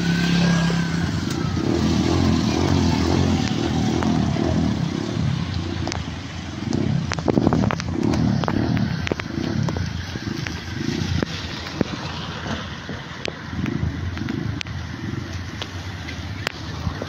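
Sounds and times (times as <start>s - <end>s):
cars driving on wet road: 0.0s - 17.0s
rain falling on street: 0.0s - 17.0s.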